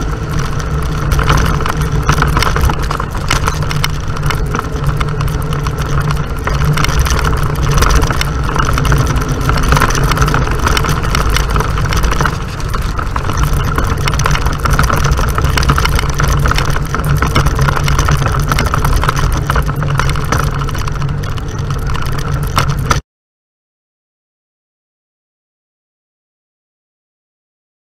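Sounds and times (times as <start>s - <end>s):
off-road vehicle engine running: 0.0s - 23.0s
road noise: 0.0s - 23.0s
wind noise on camera: 0.0s - 23.0s.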